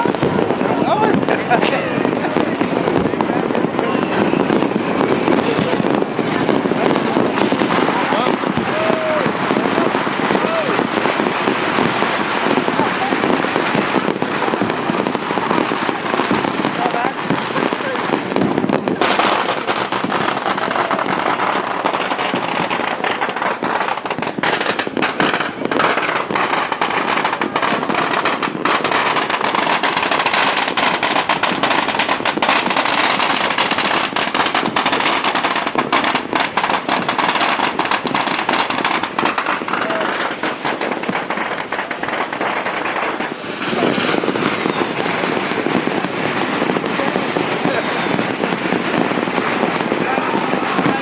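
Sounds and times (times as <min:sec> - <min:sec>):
firecrackers crackling: 0:00.0 - 0:51.0
loud firework reports: 0:00.0 - 0:51.0.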